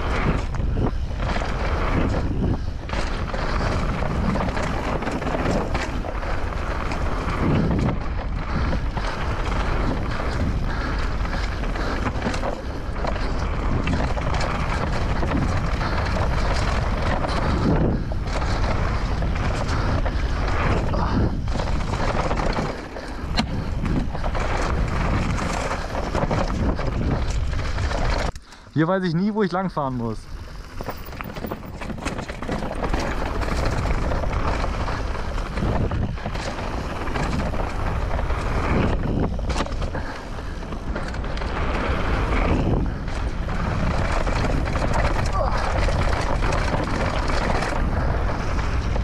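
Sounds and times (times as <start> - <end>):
bike rattling: 0.0 - 49.0
tyres rolling over dirt: 0.0 - 49.0
wind rushing over microphone: 0.0 - 49.0.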